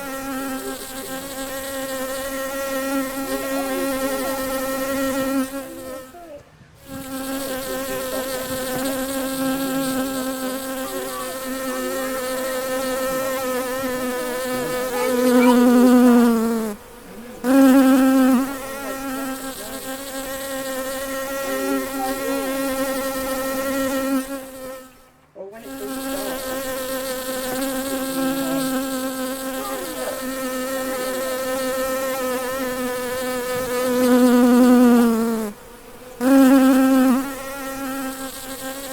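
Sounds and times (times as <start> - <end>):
bee buzzing: 0.0 - 38.9.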